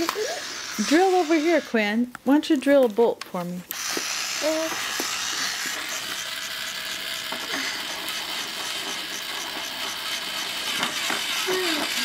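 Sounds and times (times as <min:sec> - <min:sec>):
toy drill whirring: 0:00.0 - 0:02.0, 0:03.7 - 0:12.0.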